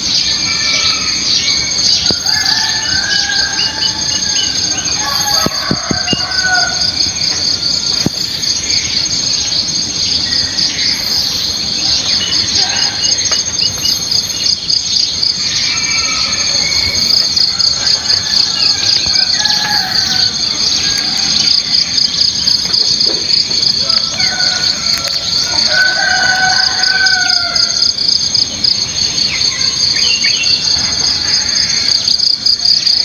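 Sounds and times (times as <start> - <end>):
birds chirping: 0.0 - 33.0
insects trilling: 0.0 - 33.0.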